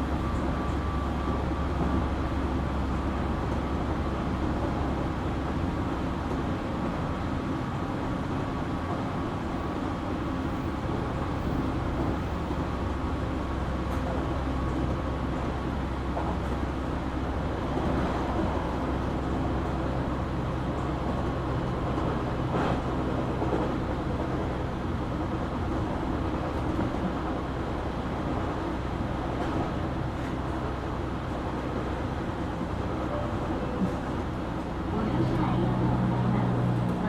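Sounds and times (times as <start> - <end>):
electric train cabin rumble: 0.0 - 37.0.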